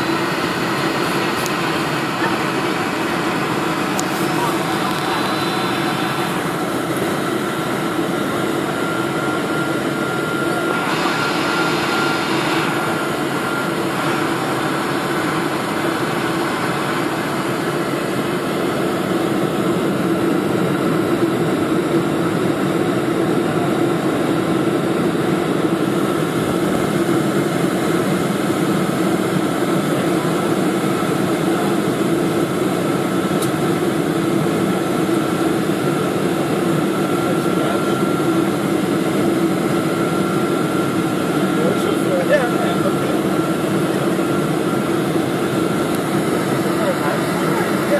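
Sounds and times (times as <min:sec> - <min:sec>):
jet engines whining: 0:00.0 - 0:47.9.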